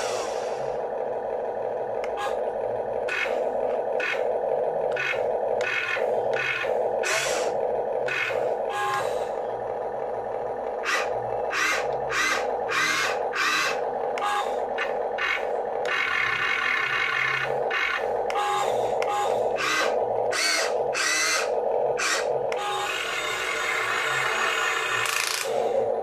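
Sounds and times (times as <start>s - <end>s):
electric motors whirring: 0.0s - 26.0s
steady hum: 0.0s - 26.0s.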